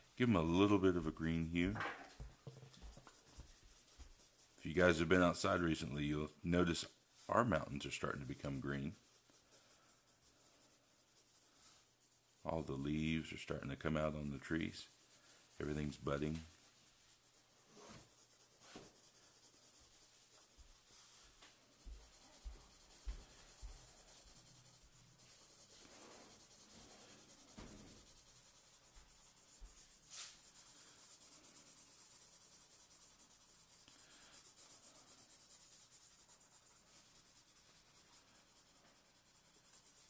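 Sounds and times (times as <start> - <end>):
marker scratching on paper: 0.3 - 40.0.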